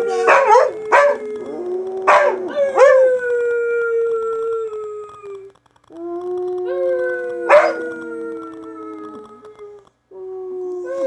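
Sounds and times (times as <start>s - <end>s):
husky howling: 0.0s - 11.0s.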